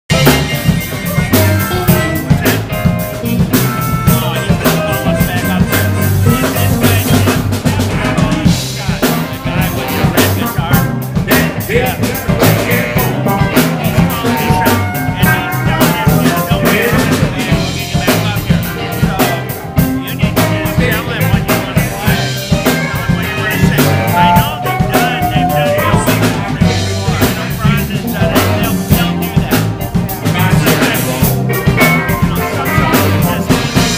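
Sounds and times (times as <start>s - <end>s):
amplified harmonica: 0.1s - 33.9s
live blues band playing: 0.1s - 33.9s
saxophone: 0.1s - 33.9s.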